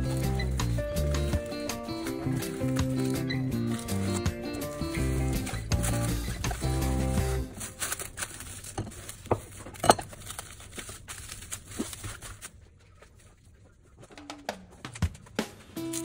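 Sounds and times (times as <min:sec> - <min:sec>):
cling film crinkling: 0:00.0 - 0:14.1, 0:14.8 - 0:16.0.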